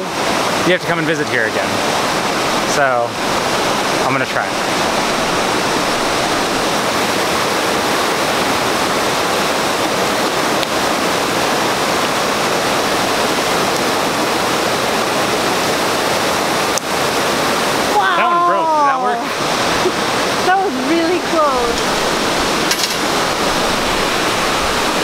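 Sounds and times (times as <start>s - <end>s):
river rushing over a waterfall: 0.0s - 25.0s.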